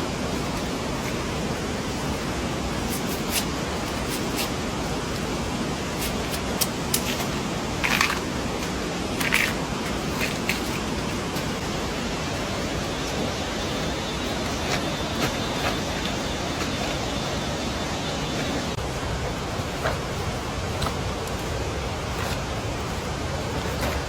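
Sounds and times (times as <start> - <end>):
hiss of rain or running water: 0.0 - 24.0.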